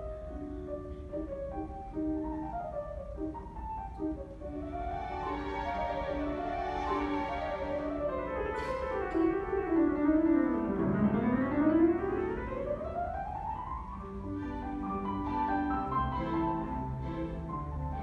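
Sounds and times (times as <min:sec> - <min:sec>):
grand piano run of notes: 0:00.0 - 0:18.0.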